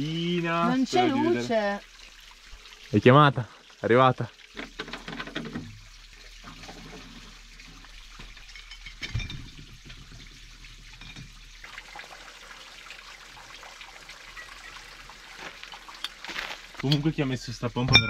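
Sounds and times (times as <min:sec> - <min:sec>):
water trickling from hose: 0:00.0 - 0:17.9.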